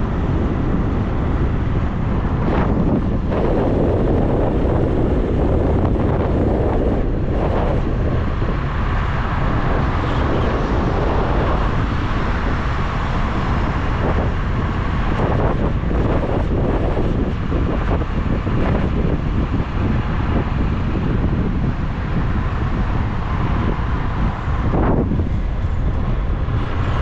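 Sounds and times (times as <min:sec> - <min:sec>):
faint ride noise: 0:00.0 - 0:27.0
wind rushing over microphone: 0:00.0 - 0:27.0.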